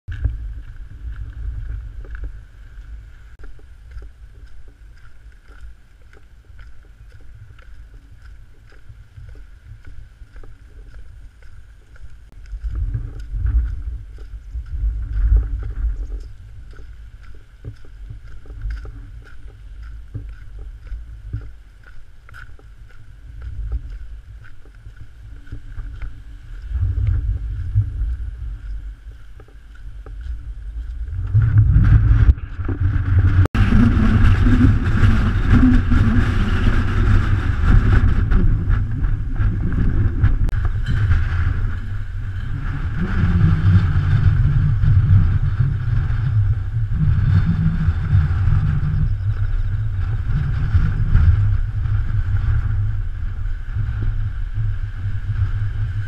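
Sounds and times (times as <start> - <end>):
strong wind buffeting microphone: 0.1 - 56.0.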